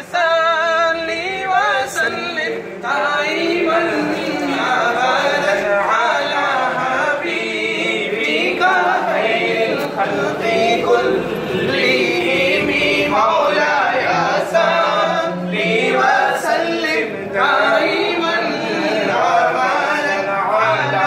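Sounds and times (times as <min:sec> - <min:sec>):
men chanting in chorus: 0:00.0 - 0:21.0.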